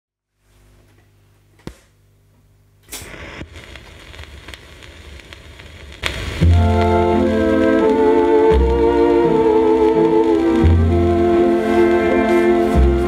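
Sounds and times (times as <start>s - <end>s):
record surface crackle and pops: 0.8s - 13.0s.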